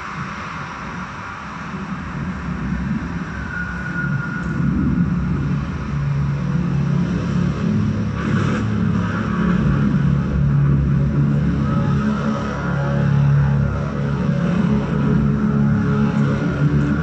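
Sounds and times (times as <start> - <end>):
deep rumbling drone: 0.0 - 17.0.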